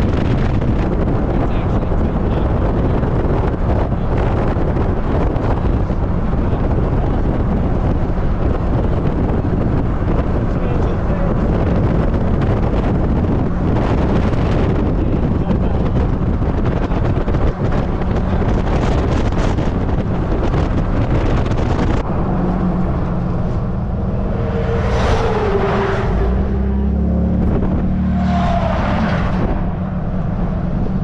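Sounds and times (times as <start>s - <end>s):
car engine hum: 0.0s - 31.0s
road noise: 0.0s - 31.0s
wind rushing: 0.0s - 31.0s.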